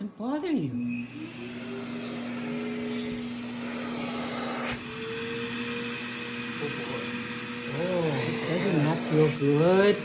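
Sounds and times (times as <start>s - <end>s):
vacuum motor humming: 0.0s - 10.0s.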